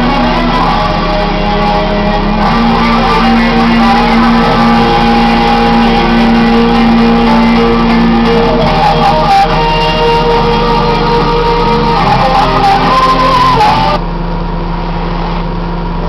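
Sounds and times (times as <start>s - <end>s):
guitar music with held notes: 0.0s - 14.0s.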